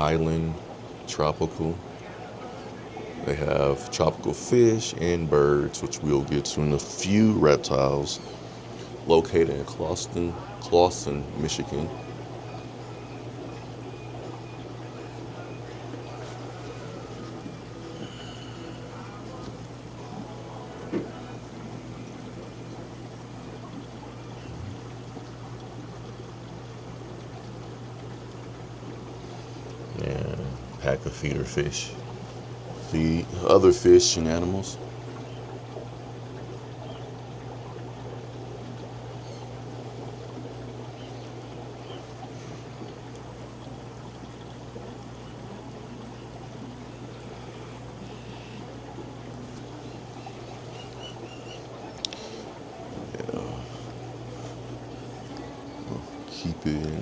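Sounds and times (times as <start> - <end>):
aquarium water trickling: 0.0 - 57.0
tank pump hum: 0.0 - 57.0.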